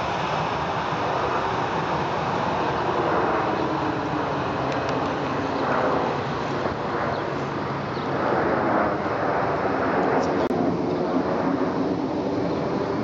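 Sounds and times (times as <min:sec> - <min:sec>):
jet rumble and hiss overhead: 0:00.0 - 0:13.0.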